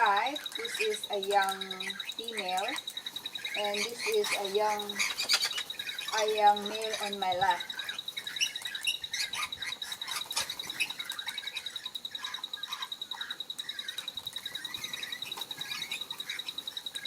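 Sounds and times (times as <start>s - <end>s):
parrots chirping and calling: 0.0s - 17.0s.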